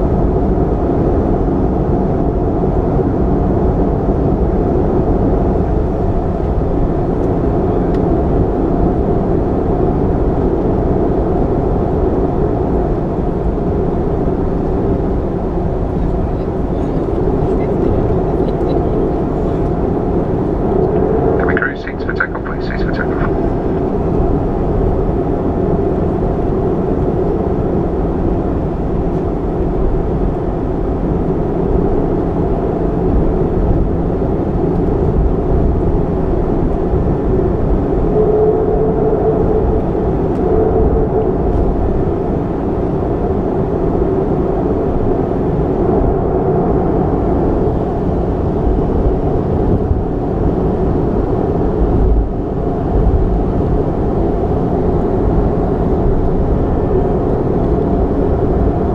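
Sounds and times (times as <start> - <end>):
jet engines rumbling in cabin: 0.0 - 58.9.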